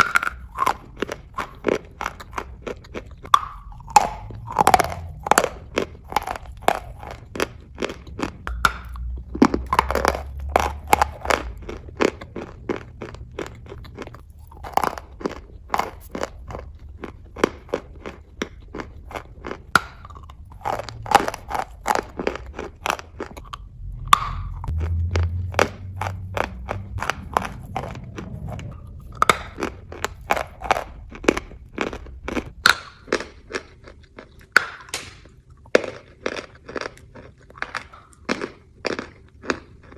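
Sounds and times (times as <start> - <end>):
chewing hard chalk: 0.0 - 39.9.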